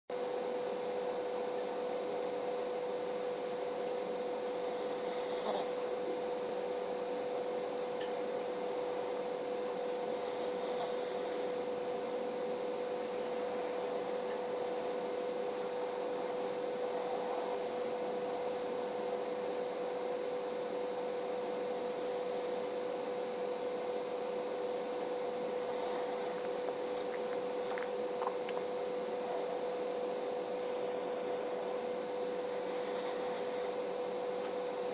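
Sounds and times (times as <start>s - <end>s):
steady electrical hum: 0.1s - 34.9s
pet snoring softly: 4.1s - 6.3s, 7.4s - 34.9s.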